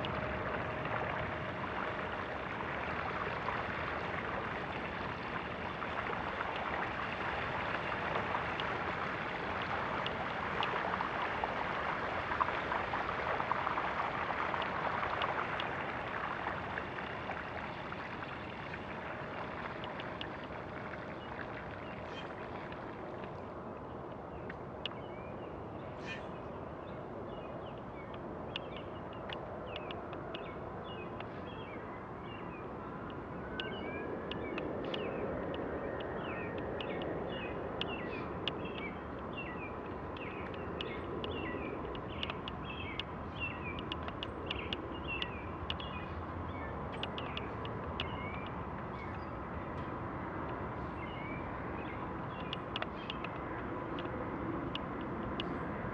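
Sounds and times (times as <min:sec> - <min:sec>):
rushing wind: 0:00.0 - 0:55.9.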